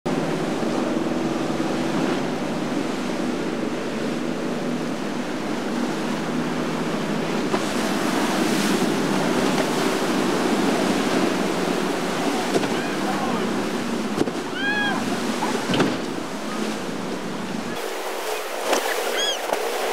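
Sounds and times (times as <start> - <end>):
outboard motor humming: 0.1 - 19.9
water rushing and waves breaking: 0.1 - 19.9.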